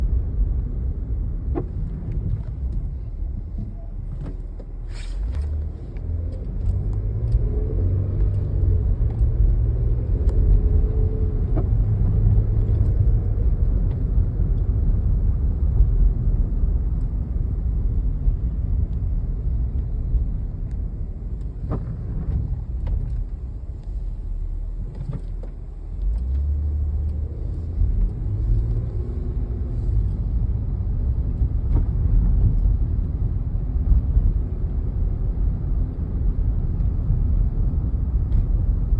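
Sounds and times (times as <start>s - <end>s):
vehicle engine and road rumble: 0.0s - 38.9s.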